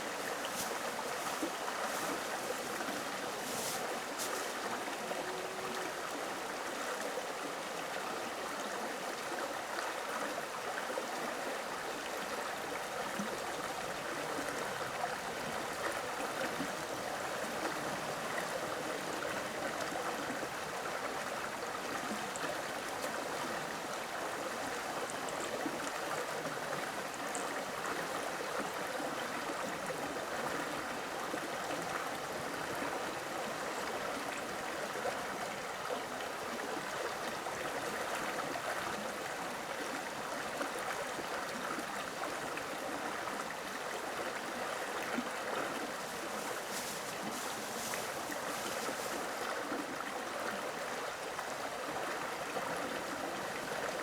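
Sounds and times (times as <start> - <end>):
running water rushing: 0.0 - 23.5, 24.2 - 54.0.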